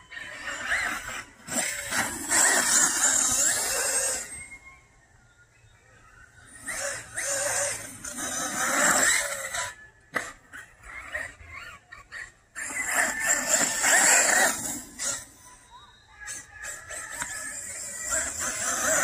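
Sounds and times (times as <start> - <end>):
rc car motor and tyre noise: 0.0 - 19.0.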